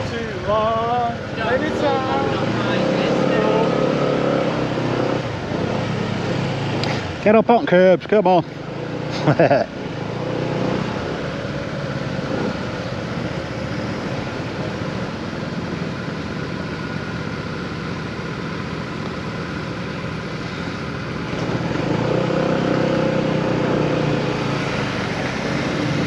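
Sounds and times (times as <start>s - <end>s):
road noise: 0.0s - 26.0s
vehicle engine: 0.0s - 26.0s.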